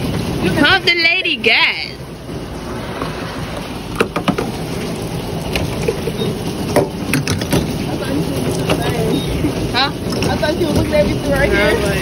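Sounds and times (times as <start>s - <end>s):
low rumble of rain: 0.0s - 12.0s.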